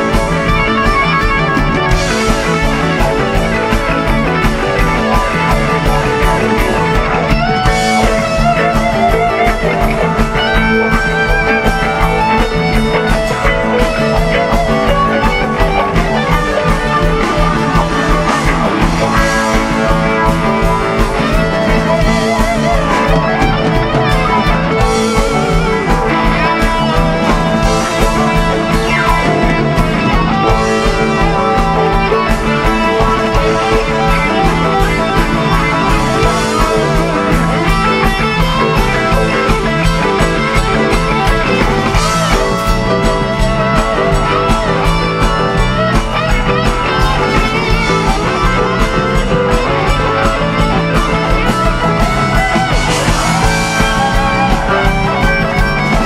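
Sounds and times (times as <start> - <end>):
bass guitar: 0.0 - 56.0
drum kit: 0.0 - 56.0
electric guitar lead lines: 0.0 - 56.0.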